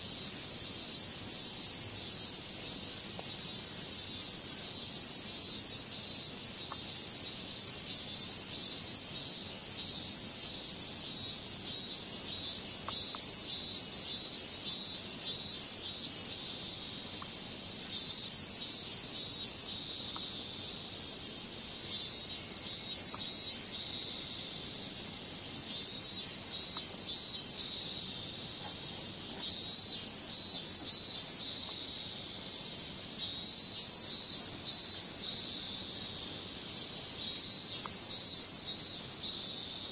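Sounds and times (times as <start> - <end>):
cicadas shrilling: 0.0 - 39.9
pulsing cicada calls: 0.0 - 39.9.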